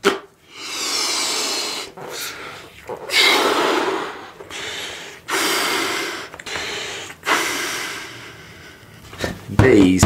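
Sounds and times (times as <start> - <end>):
man blowing into balloon: 0.0 - 9.0
gasping inhale: 0.4 - 9.0.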